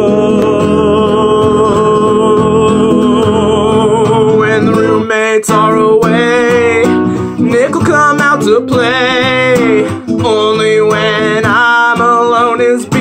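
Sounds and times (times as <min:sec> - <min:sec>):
man singing: 0:00.0 - 0:13.0
strummed classical guitar: 0:00.0 - 0:13.0.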